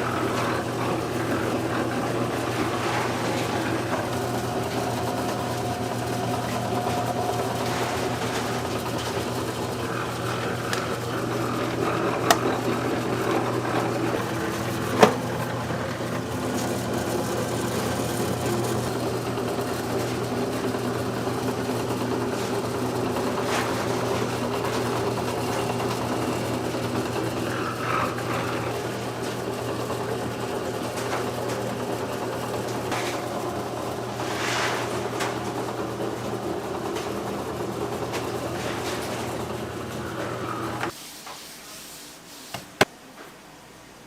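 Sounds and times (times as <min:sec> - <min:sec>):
kitchen equipment humming: 0:00.0 - 0:41.0.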